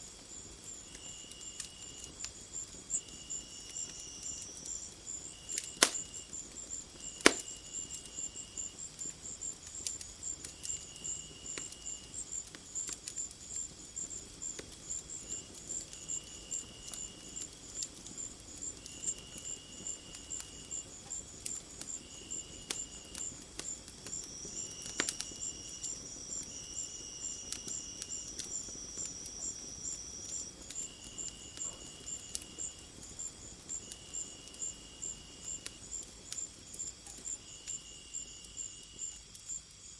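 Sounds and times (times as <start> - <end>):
crickets chirping: 0.0 - 39.9
wood fire crackling: 0.0 - 39.9
insect trilling: 2.9 - 39.9.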